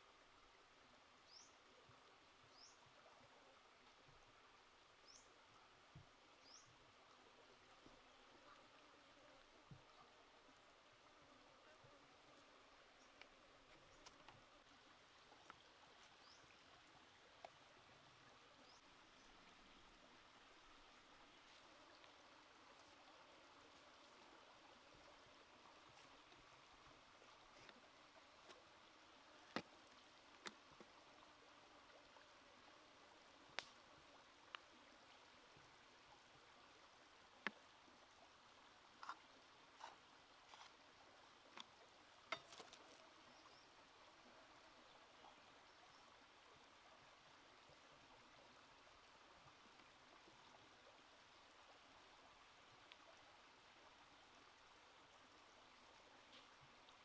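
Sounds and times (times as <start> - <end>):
faint even hiss: 0.0 - 57.0.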